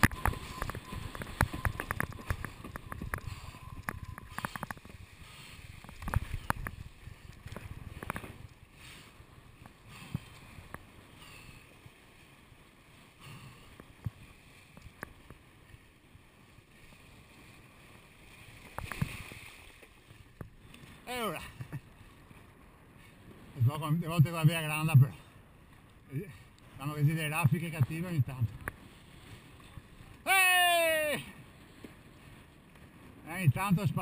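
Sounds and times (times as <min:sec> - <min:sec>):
rush of water: 0:00.0 - 0:22.4, 0:26.1 - 0:32.0.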